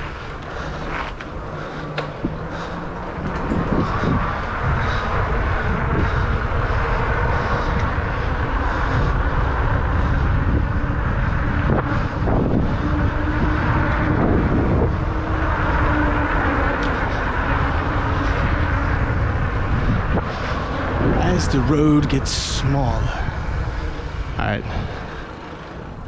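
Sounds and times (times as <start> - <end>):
steady hum: 0.0 - 26.0
tires rolling on road: 0.0 - 26.0
wind buffeting microphone: 0.0 - 26.0.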